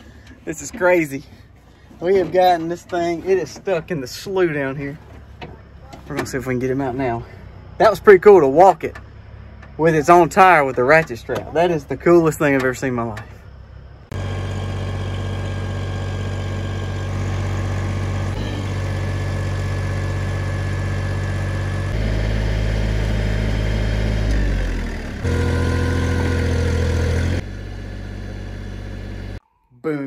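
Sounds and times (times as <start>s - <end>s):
diesel engine running under load: 0.0s - 29.4s.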